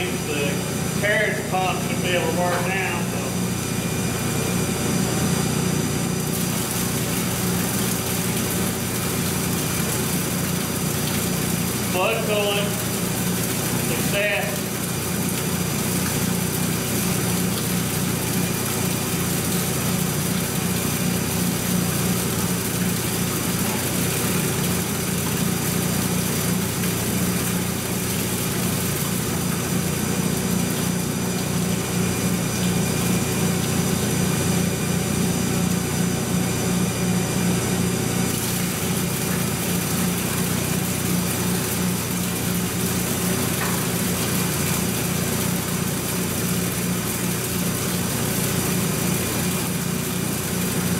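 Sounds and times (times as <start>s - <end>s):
electric machinery hum: 0.0s - 50.9s
coolant pouring onto metal: 5.9s - 36.2s, 38.1s - 50.9s.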